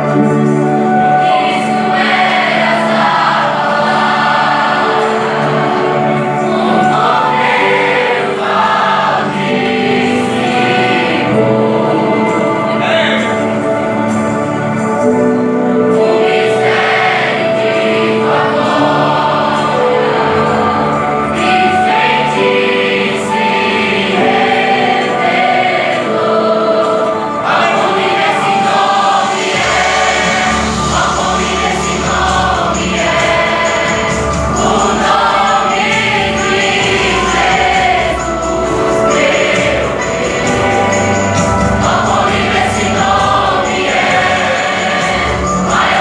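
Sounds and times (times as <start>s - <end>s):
choir singing worship song: 0.0s - 46.0s
instrumental backing: 0.0s - 46.0s.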